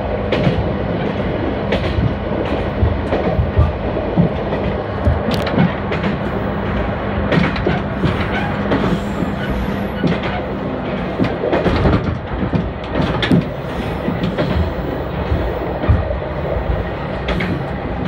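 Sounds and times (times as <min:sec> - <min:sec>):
railcar engine and running rumble: 0:00.0 - 0:18.0
wheels clacking over rail joints: 0:00.3 - 0:18.0.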